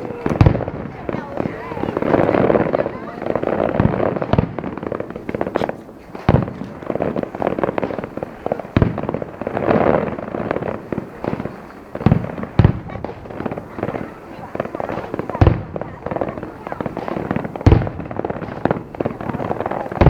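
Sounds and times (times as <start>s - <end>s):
firework booms: 0.0s - 20.0s
firework crackling: 0.0s - 20.0s.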